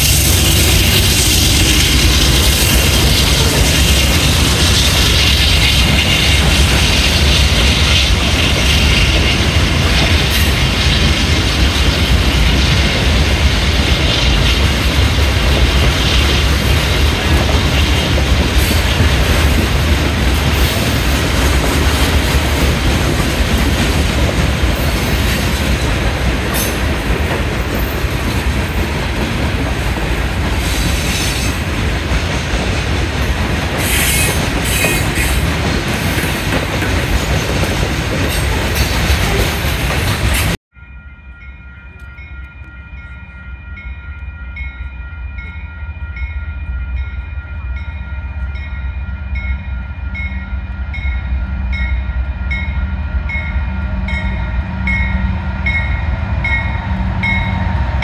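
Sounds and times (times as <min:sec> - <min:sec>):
freight train rumbling on rails: 0:00.0 - 0:58.0.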